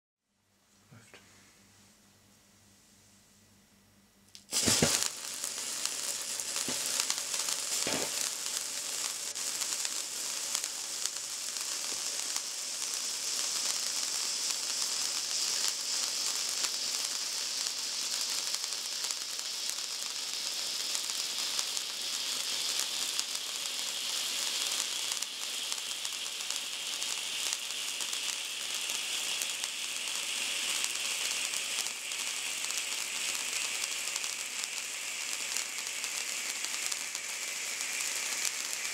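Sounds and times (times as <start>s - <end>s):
table fountain sparks sizzling: 4.3s - 38.9s
sharp pops: 4.4s - 38.9s.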